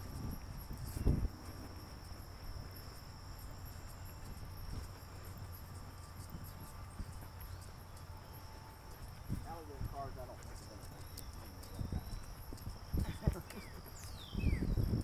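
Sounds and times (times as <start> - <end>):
footsteps on asphalt: 0.0 - 15.0
insects trilling: 0.0 - 15.0.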